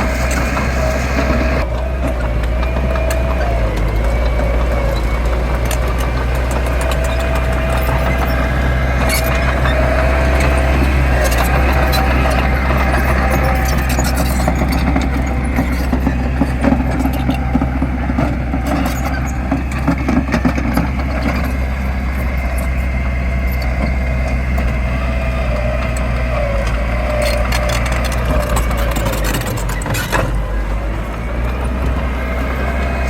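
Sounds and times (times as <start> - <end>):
clanks and rattles: 0.0 - 33.0
diesel engine of heavy machinery: 0.0 - 33.0.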